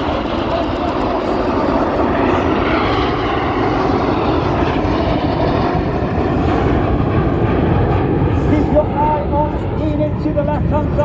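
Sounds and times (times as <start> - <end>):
jets flying low: 0.0 - 11.0.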